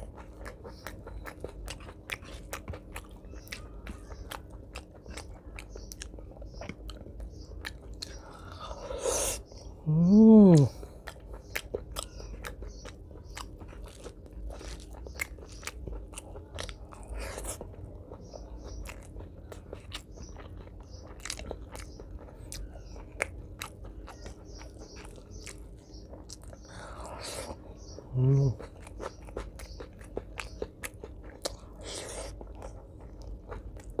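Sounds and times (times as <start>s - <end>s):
open-mouthed chewing: 0.0s - 34.0s.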